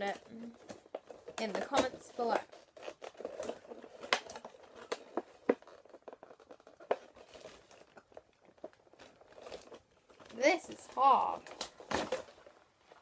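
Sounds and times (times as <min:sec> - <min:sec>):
sharp clicks and crackles: 0:00.0 - 0:12.5
toy packaging being crinkled: 0:00.0 - 0:13.0.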